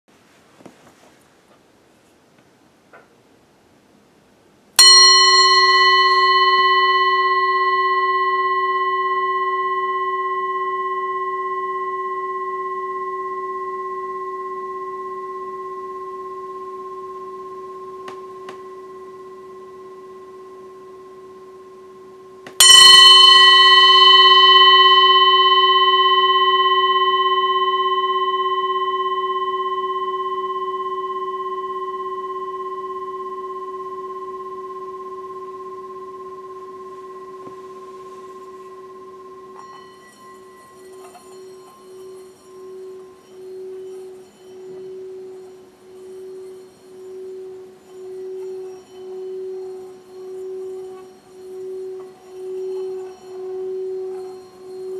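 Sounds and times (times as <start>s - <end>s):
singing bowl ringing: 4.8s - 54.9s.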